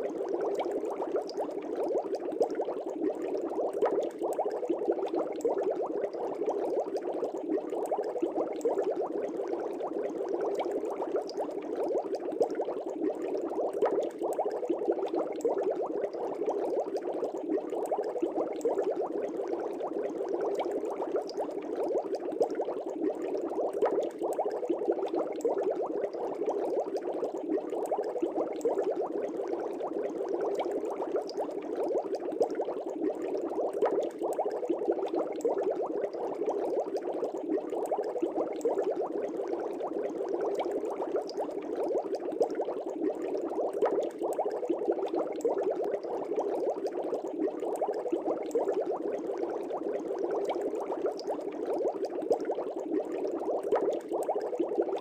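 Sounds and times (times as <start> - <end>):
bubbles in fish tank: 0.0 - 55.0.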